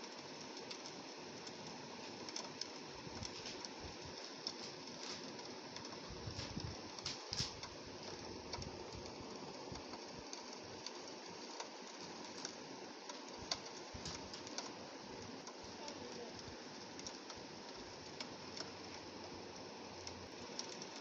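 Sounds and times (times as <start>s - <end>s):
rain hissing: 0.0s - 21.0s
raindrops ticking on glass: 0.0s - 21.0s.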